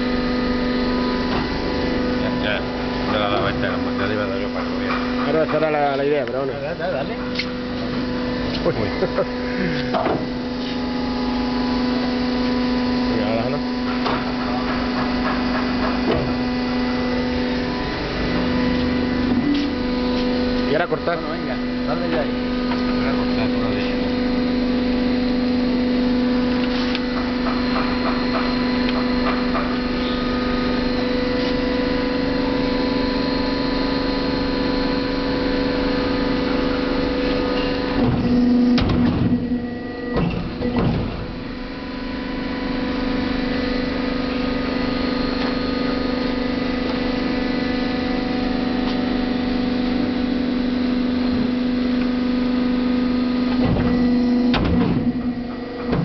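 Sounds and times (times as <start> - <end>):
die-cutting press humming: 0.0 - 56.0.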